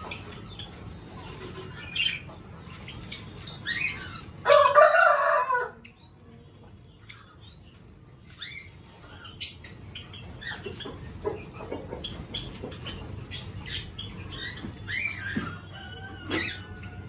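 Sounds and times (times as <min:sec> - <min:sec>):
finches and budgies chirping: 0:00.0 - 0:04.6, 0:05.8 - 0:17.0.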